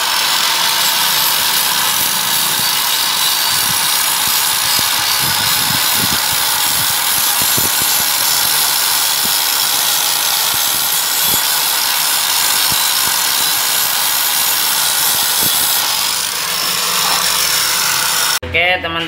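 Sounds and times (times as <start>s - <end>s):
angle grinder grinding metal: 0.0s - 18.4s.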